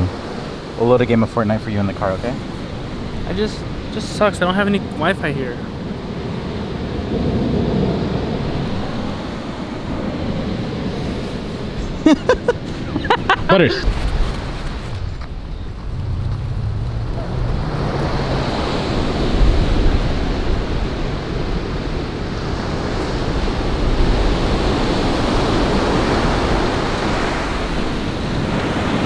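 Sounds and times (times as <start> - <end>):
surf washing up beach: 0.0 - 29.0
wind rumbling on microphone: 0.0 - 29.0.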